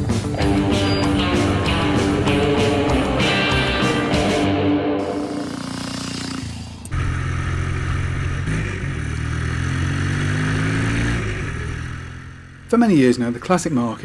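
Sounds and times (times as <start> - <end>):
motorcycle engine accelerating: 0.0 - 13.6.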